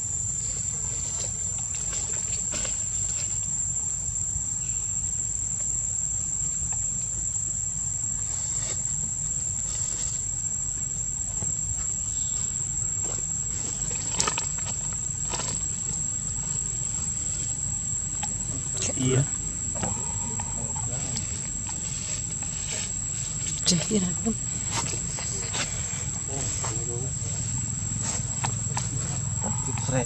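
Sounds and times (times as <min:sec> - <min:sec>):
insects droning: 0:00.0 - 0:30.0
low steady rumble: 0:00.0 - 0:30.0.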